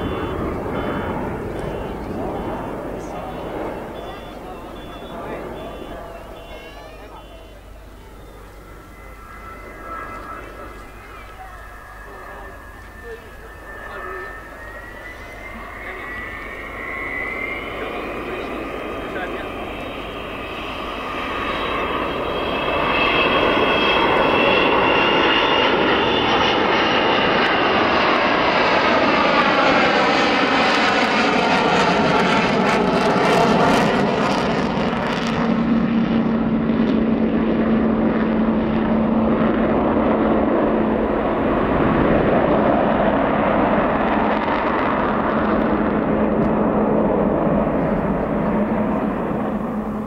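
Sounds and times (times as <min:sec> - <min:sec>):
jet bomber flying past low: 0:00.0 - 0:50.0.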